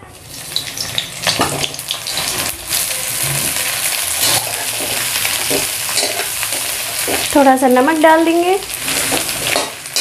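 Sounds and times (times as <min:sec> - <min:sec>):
jackfruit sizzling in hot oil: 0:00.1 - 0:10.0.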